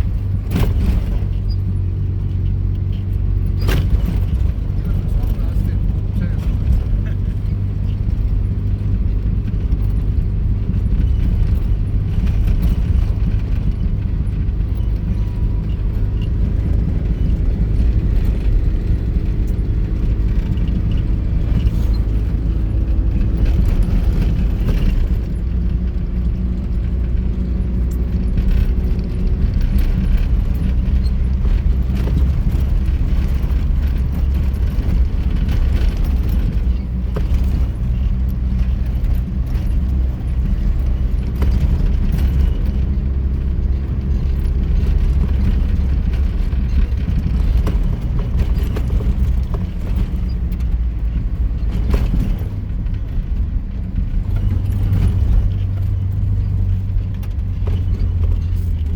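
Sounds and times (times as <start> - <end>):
light rattles: 0.0 - 58.9
off-road vehicle rumble: 0.0 - 58.9.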